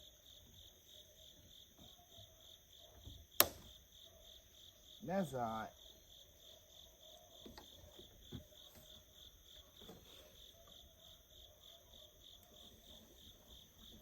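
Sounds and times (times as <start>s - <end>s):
crickets chirping: 0.0s - 14.0s
faint insect hum: 0.0s - 14.0s.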